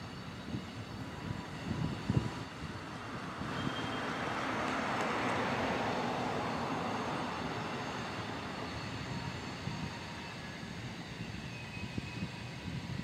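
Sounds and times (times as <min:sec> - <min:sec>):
distant freight train rumbling: 0:00.0 - 0:13.0.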